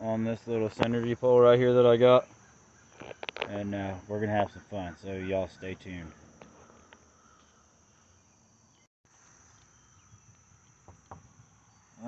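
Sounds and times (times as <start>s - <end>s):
high-pitched chorus of crickets: 0.0s - 12.0s.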